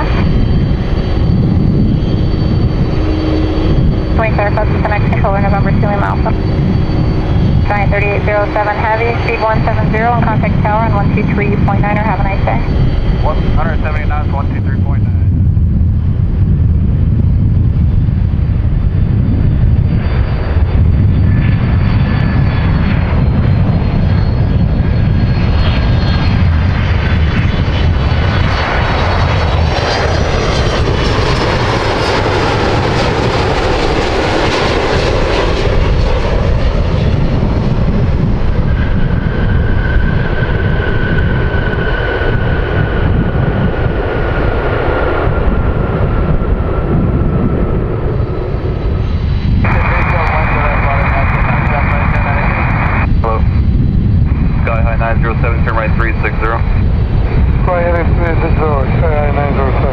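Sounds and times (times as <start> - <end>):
high engine whines: 0.0 - 59.9
jet engines rumbling and roaring: 0.0 - 59.9.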